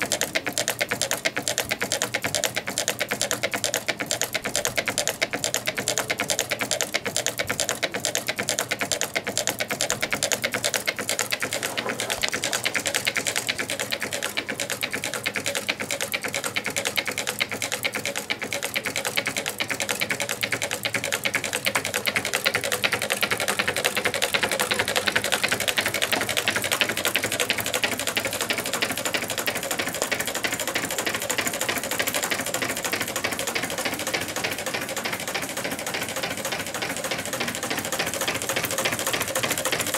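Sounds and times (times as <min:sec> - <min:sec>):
stirling engine ticking clatter: 0:00.0 - 0:39.9.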